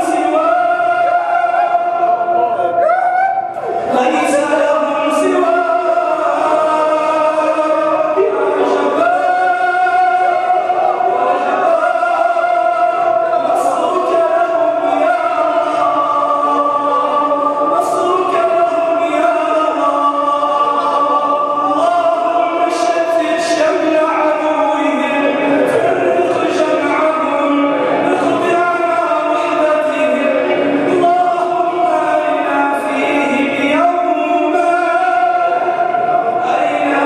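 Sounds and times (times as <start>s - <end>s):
congregation voices joining in: 0.0s - 37.0s
man chanting through microphone: 0.0s - 37.0s.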